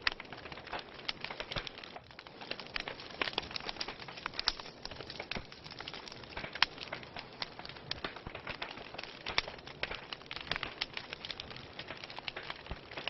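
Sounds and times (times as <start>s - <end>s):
logs crackling in fireplace: 0.0s - 13.0s.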